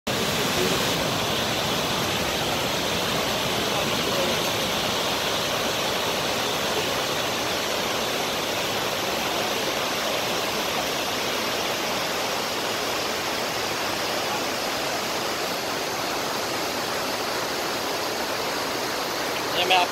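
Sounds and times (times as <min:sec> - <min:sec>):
creek running over stones: 0:00.1 - 0:19.9
waterfall pouring into pool: 0:00.1 - 0:19.9.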